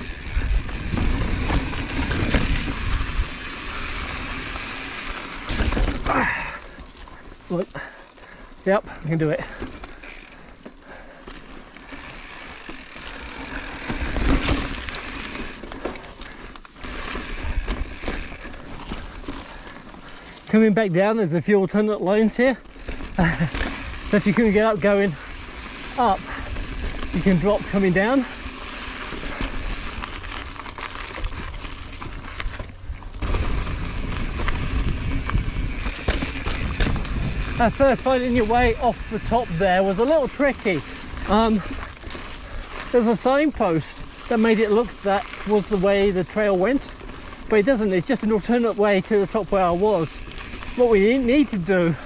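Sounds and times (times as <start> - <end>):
bike clicks and rattles: 0.0 - 52.0
bike tyres crunching on rock: 0.0 - 52.0.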